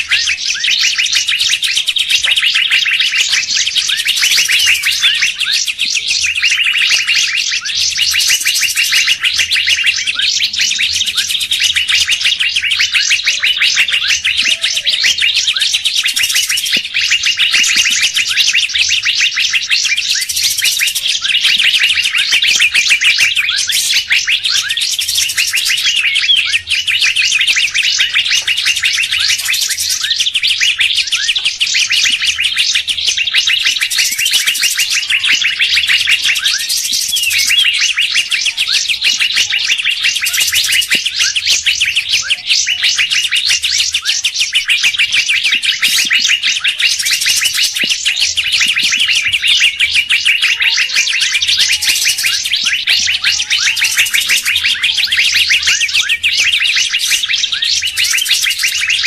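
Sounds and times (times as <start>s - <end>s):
songbirds chirping and chattering: 0.0s - 59.0s.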